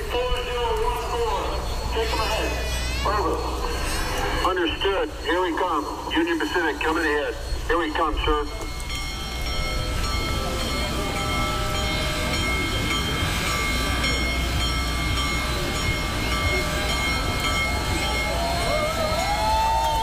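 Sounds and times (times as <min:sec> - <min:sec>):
steam locomotive low rumble: 0:00.0 - 0:20.0.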